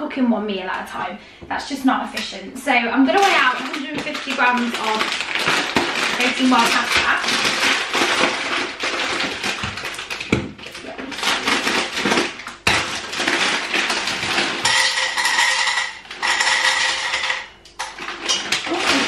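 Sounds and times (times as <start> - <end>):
dry pasta rattling into bowl: 3.1 - 19.0.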